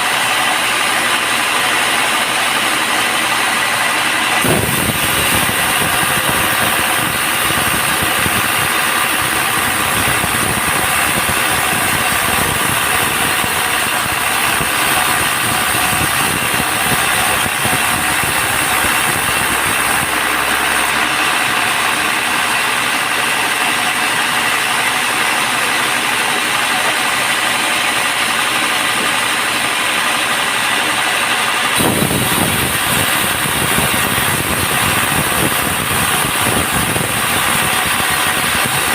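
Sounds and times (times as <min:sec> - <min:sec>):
band sawmill machine drone: 0:00.0 - 0:38.9.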